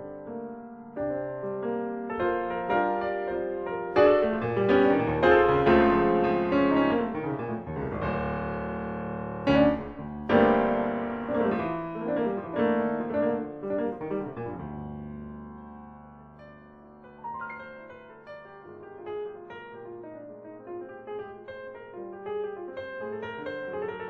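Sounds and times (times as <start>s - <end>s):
solo piano music: 0.0s - 24.0s.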